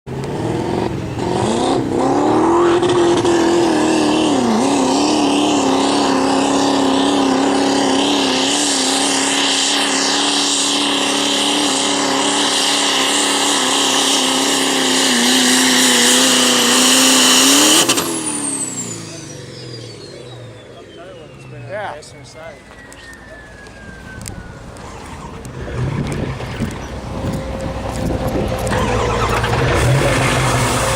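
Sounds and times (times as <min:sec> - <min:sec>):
diesel truck engine revving: 0:00.1 - 0:30.9.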